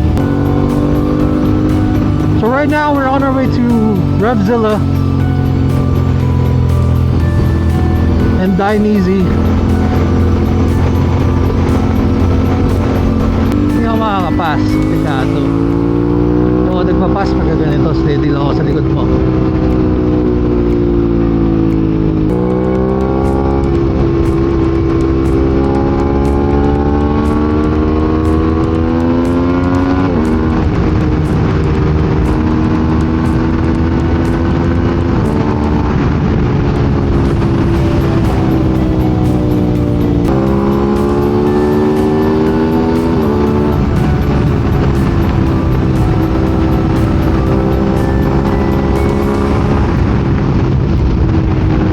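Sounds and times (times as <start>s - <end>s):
heavy wind rush: 0.0s - 51.9s
motorcycle engine shifting gears: 0.0s - 51.9s.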